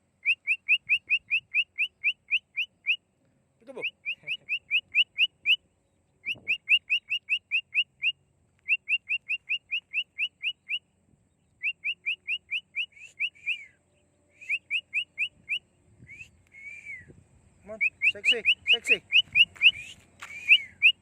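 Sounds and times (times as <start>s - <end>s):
cockatiel whistling: 0.2s - 3.0s, 3.8s - 5.6s, 6.2s - 10.8s, 11.6s - 13.8s, 14.4s - 17.1s, 17.8s - 21.0s.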